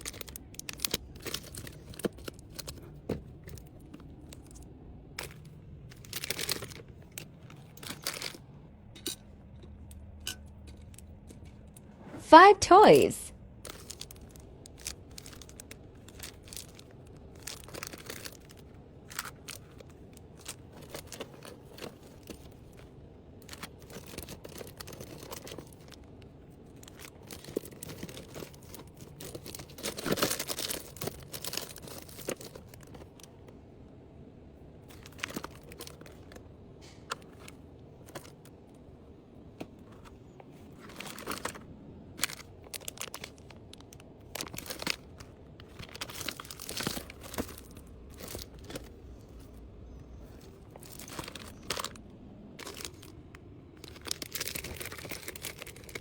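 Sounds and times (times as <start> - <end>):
plastic and paper crinkling: 0.0 - 8.5, 13.6 - 33.6, 34.8 - 38.6, 39.5 - 52.0, 52.6 - 56.0.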